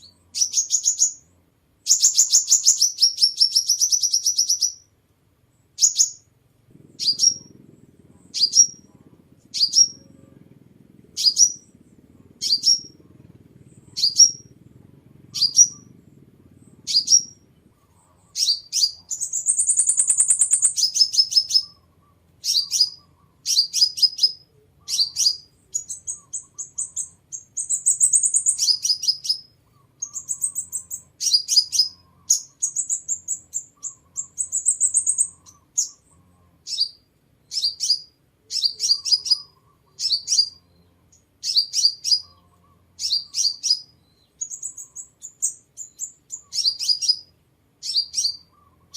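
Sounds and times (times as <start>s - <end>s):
bird chips and trills: 1.9s - 4.9s, 5.7s - 48.9s.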